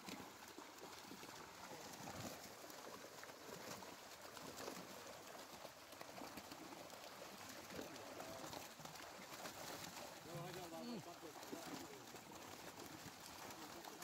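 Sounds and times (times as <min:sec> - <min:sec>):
fish splashing at water surface: 0:00.0 - 0:14.0.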